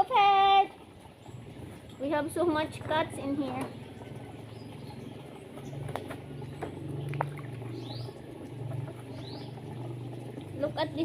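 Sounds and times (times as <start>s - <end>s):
low steady hum: 0.0s - 11.0s
small birds chirping: 1.1s - 10.0s.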